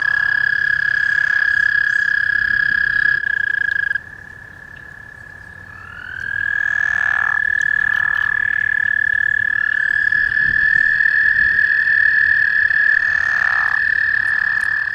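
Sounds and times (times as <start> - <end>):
lower frog calls: 0.0 - 14.9
toads trilling in chorus: 0.0 - 14.9.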